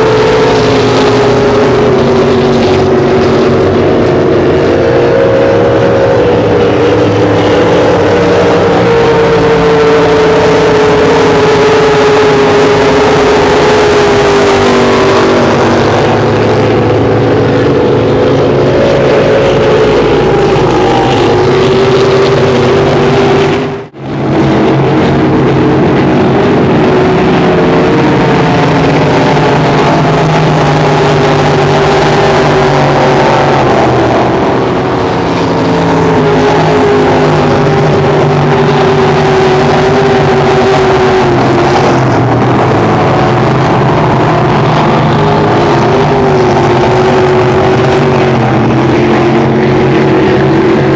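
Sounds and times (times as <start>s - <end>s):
speedboat engines passing: 0.0s - 50.9s.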